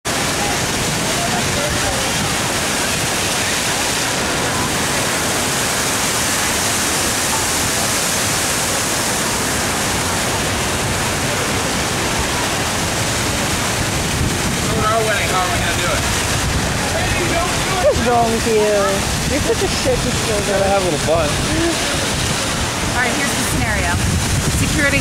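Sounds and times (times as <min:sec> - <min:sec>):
fountain water splashing: 0:00.0 - 0:25.0.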